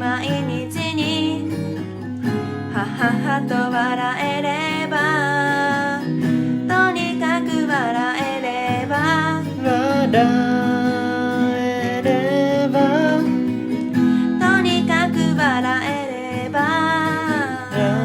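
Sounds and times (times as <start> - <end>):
acoustic guitar strumming: 0.0 - 18.0
person singing: 2.7 - 13.5, 14.2 - 18.0.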